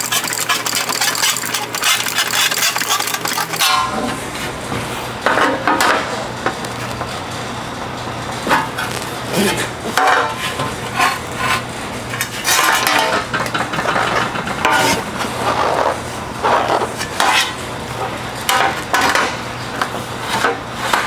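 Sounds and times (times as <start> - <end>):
sheet steel clattering and scraping: 0.0 - 7.4, 8.2 - 21.0
low electrical hum: 0.0 - 21.0.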